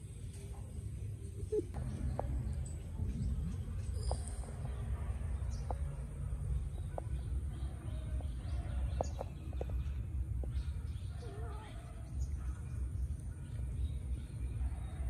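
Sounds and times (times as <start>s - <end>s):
low rumble on microphone: 0.0s - 15.0s
bird chirps: 1.8s - 15.0s.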